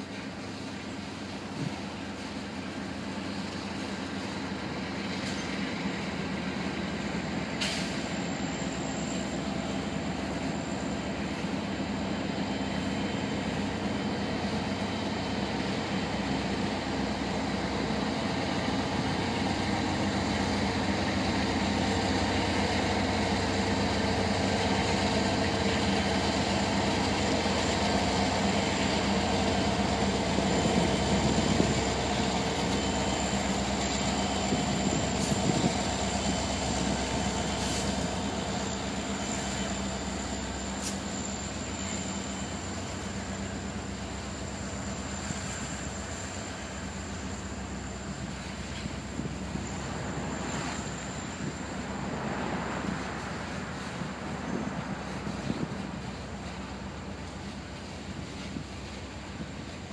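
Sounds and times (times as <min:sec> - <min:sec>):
diesel locomotive drone: 0:00.0 - 0:59.9.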